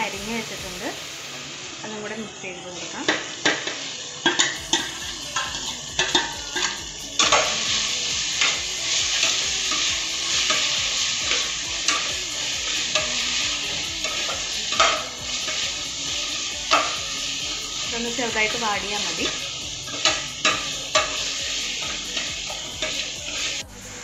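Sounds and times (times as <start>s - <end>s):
leaves sizzling in oil: 0.0s - 24.0s.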